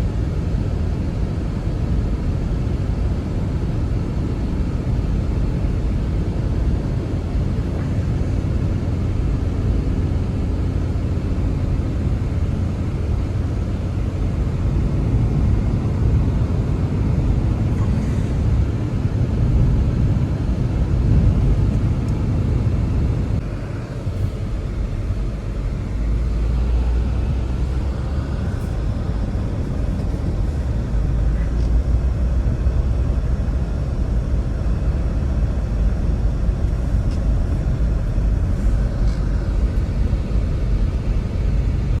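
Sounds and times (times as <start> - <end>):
blizzard wind gusting on microphone: 0.0 - 42.0.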